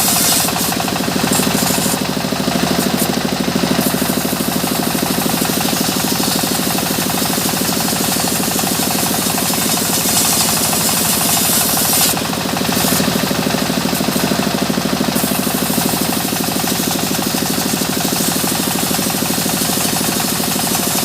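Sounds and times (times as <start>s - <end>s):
engine-driven saw running: 0.0s - 21.0s.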